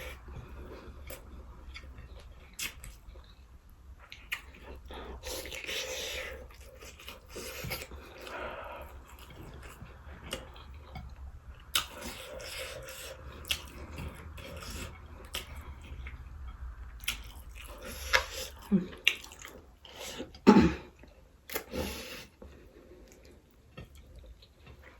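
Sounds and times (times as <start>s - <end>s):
person chewing food: 0.0s - 24.9s.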